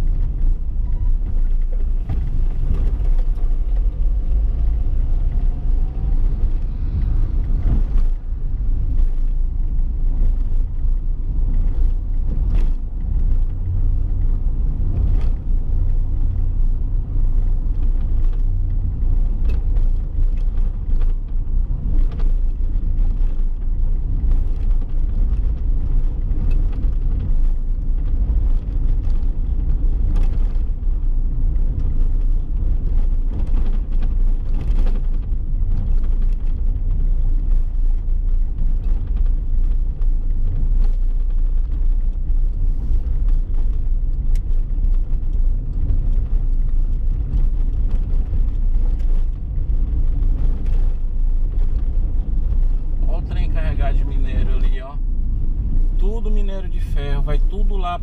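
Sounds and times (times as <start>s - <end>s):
vehicle driving on road: 0.0s - 58.0s.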